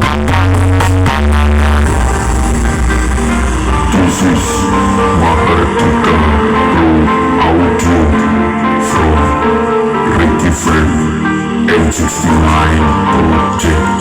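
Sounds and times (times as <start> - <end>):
loud music with heavy bass: 0.0 - 14.0.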